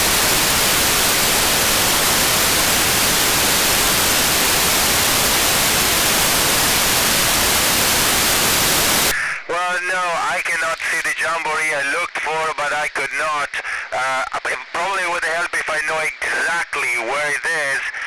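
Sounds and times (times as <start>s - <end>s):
radio static: 0.0s - 18.0s.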